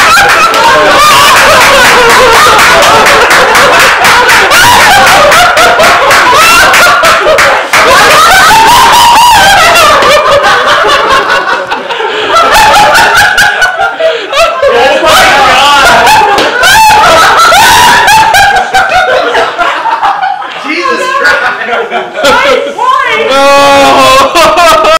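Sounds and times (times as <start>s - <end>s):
person laughing loudly: 0.0s - 22.5s, 23.8s - 24.9s.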